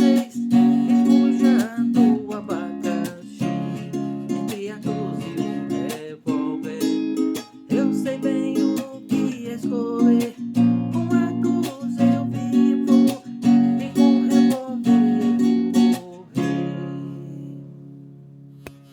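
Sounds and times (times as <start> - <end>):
acoustic guitar strumming: 0.0 - 18.9.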